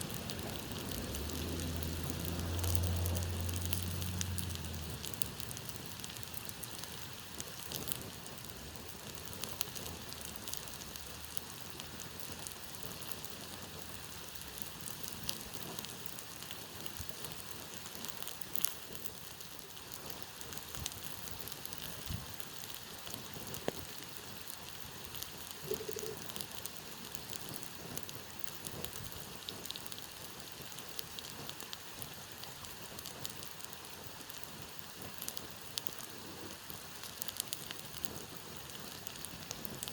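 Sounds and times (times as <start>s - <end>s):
campfire hissing and crackling: 0.0s - 39.9s.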